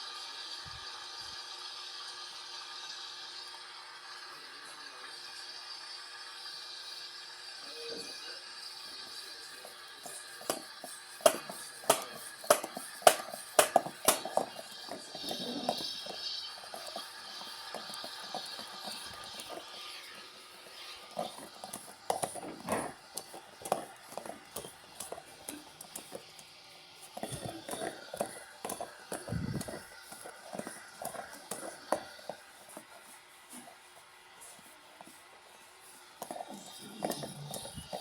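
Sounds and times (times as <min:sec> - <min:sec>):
washing machine running: 0:00.0 - 0:38.0.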